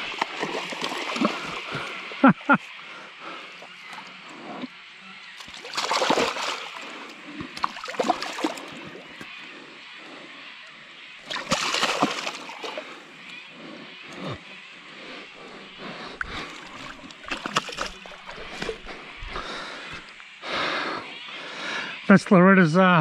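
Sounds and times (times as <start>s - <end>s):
fish splashing in shallow water: 0.0s - 14.7s, 15.3s - 20.4s.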